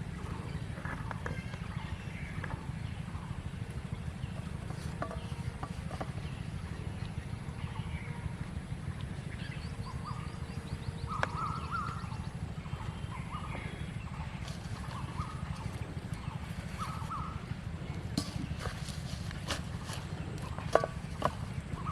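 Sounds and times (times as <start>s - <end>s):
birds chirping: 0.0s - 21.9s
steady low rumble: 0.0s - 21.9s.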